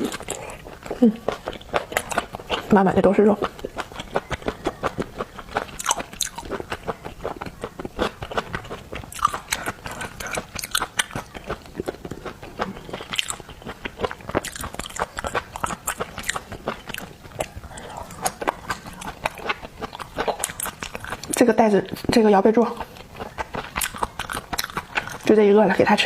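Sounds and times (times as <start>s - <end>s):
wet chewing mouth sounds: 0.0s - 26.0s.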